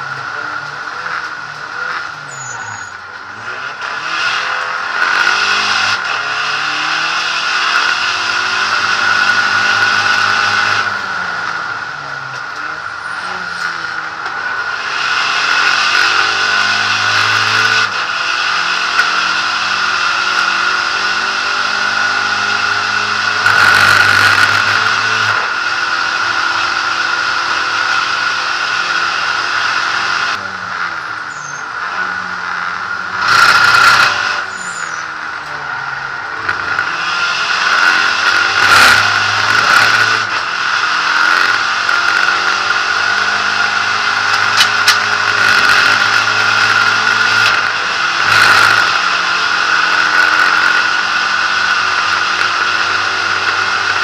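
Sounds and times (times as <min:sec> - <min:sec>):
high whine: 0:00.0 - 0:54.0
race car engine revving: 0:00.0 - 0:54.0.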